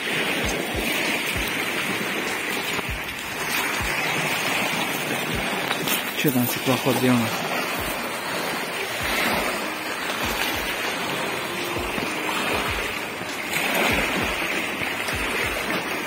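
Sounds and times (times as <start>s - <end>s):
waves lapping on pebble shore: 0.0s - 16.0s.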